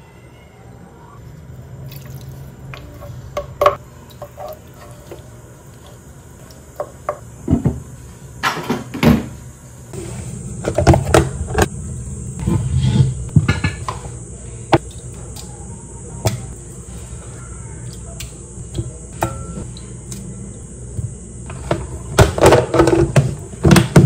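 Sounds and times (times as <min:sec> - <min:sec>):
steady low hum: 0:00.8 - 0:24.0.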